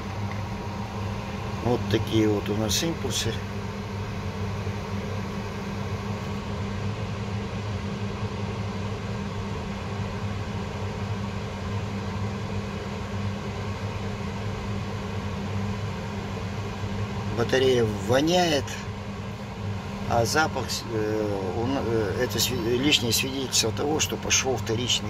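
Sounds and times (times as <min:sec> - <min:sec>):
battery charger humming with hiss: 0:00.0 - 0:25.0.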